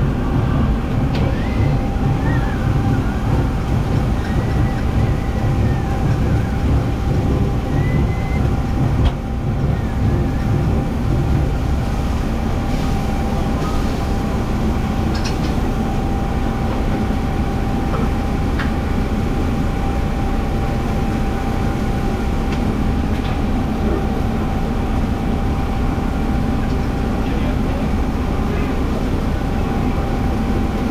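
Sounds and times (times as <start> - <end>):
vehicle running low rumble: 0.0 - 30.9.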